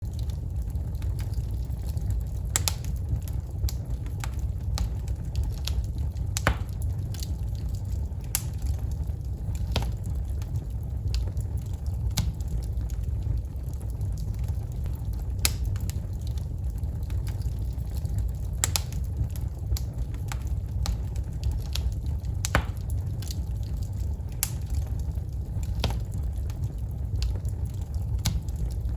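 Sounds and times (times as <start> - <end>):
logs crackling and popping: 0.0 - 28.9
low rumble of flames: 0.0 - 28.9.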